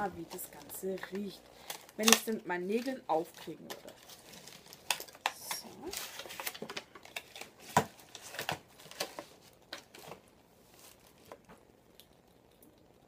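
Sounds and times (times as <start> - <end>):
packaging clicks and crinkles: 0.0 - 12.8.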